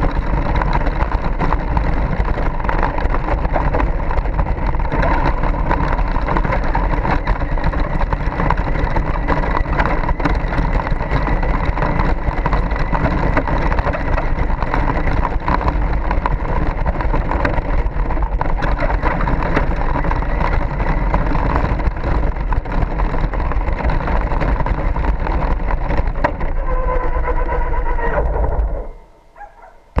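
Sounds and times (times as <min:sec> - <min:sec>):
rattling rumble of toy truck tyres: 0:00.0 - 0:30.0.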